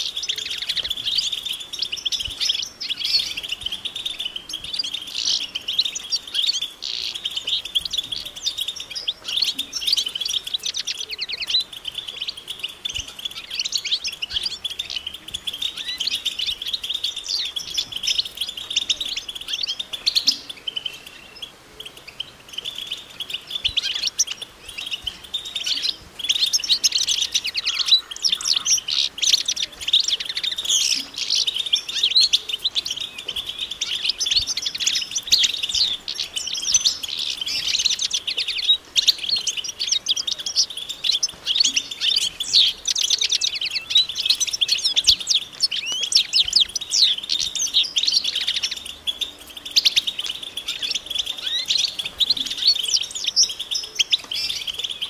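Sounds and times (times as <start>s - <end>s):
goldfinches twittering: 0.0s - 55.0s.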